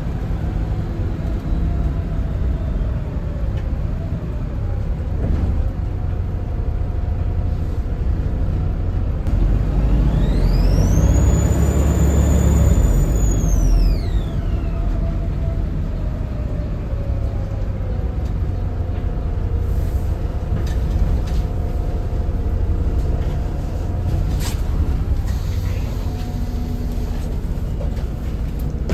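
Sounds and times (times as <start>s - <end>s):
diesel bus engine rumbling: 0.0s - 28.9s.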